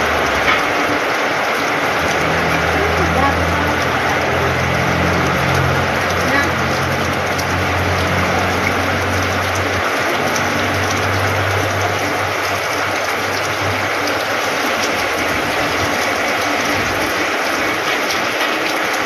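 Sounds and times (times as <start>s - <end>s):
heavy rain on a metal roof: 0.0s - 19.0s.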